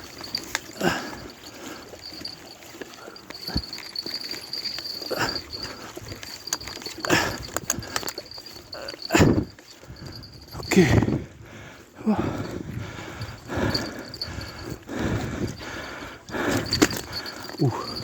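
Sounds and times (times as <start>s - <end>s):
man breathing heavily: 0.0s - 18.0s.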